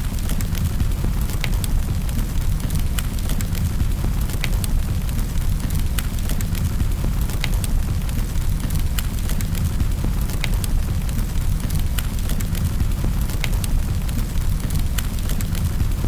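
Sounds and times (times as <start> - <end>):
wood fire snaps and pops: 0.0 - 16.0.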